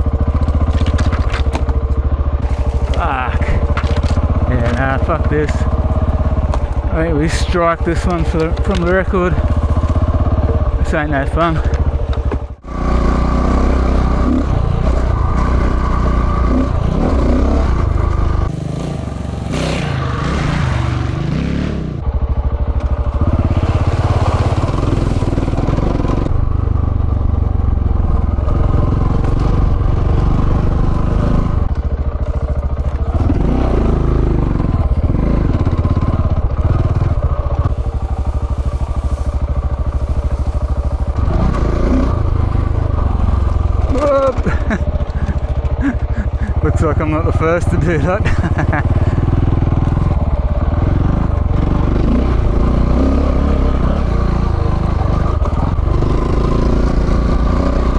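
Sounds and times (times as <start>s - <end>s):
motorcycle engine at low revs: 0.0s - 57.9s.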